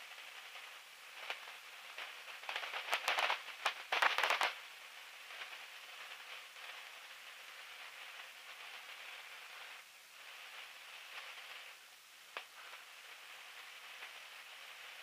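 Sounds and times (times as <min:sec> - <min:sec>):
crackling static with clicks: 0:00.0 - 0:15.0
steady intercom hiss: 0:00.0 - 0:15.0.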